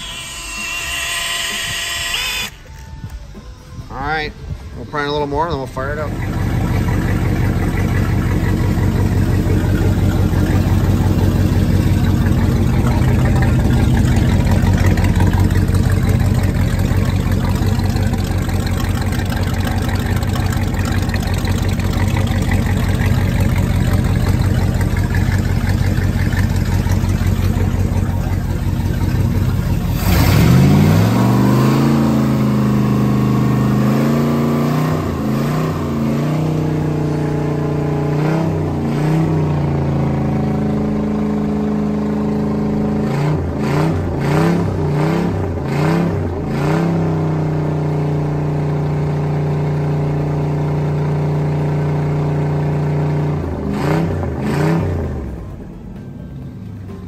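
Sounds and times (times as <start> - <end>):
engine running and revving: 5.1 - 56.0.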